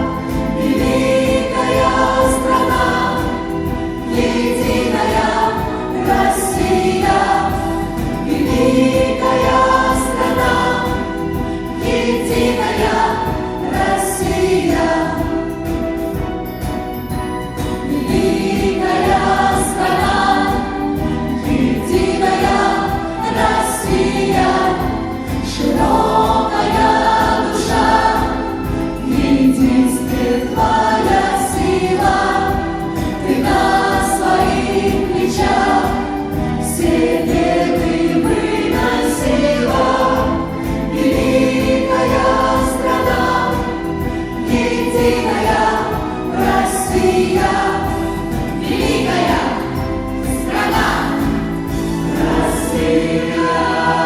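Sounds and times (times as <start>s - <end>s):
choir singing: 0.0s - 54.0s
instrumental accompaniment with beat: 0.0s - 54.0s.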